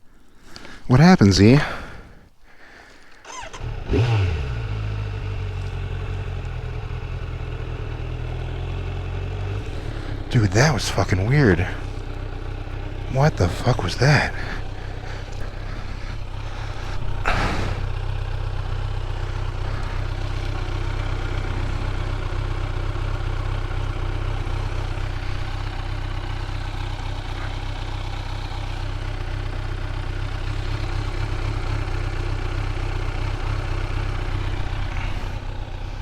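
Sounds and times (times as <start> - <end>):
motorcycle engine idling: 1.4 - 36.0.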